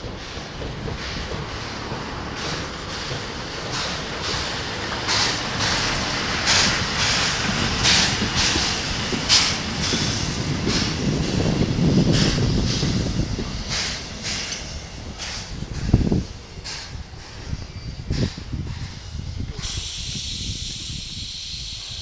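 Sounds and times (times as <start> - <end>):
steam locomotive chuffing: 0.0 - 22.0
wheels rumbling on rail: 0.0 - 22.0.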